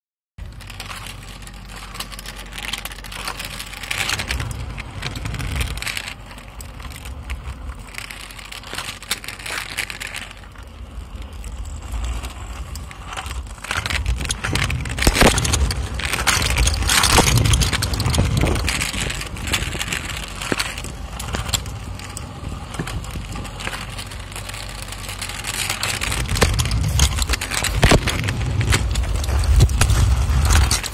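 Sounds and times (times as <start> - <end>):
scooter wheels rolling on asphalt: 0.4 - 30.9.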